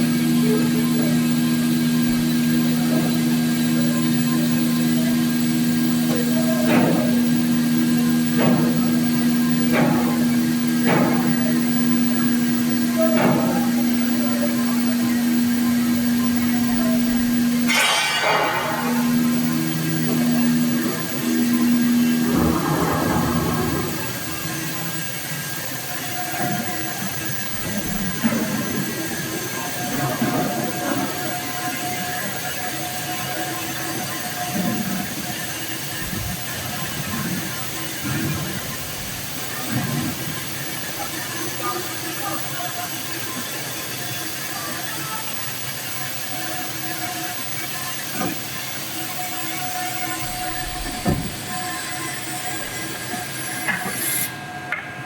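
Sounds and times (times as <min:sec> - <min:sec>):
machine humming: 0:00.0 - 0:44.7, 0:45.4 - 0:55.0.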